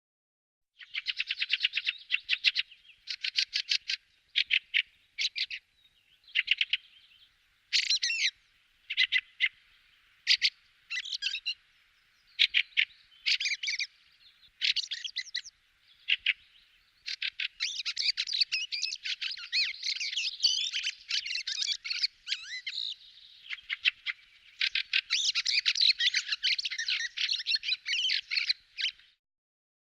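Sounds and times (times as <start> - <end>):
bird harsh chattering calls: 0.8 - 5.6, 6.3 - 7.0, 7.7 - 9.6, 10.2 - 11.6, 12.4 - 14.0, 14.6 - 29.2.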